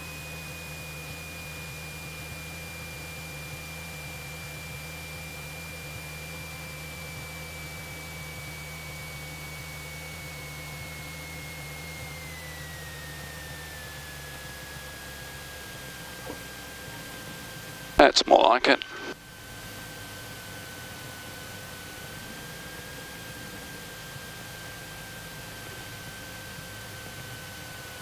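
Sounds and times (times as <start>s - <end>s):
airplane engine and propeller drone: 0.0s - 28.0s.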